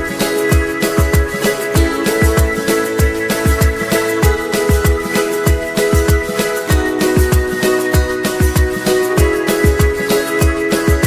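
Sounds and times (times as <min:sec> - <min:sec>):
kick drum: 0:00.0 - 0:11.0.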